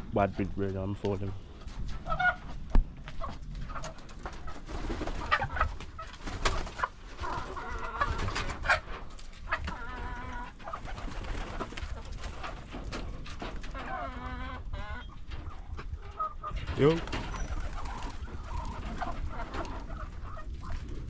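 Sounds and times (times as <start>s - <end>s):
farmyard birds calling: 0.0s - 21.0s.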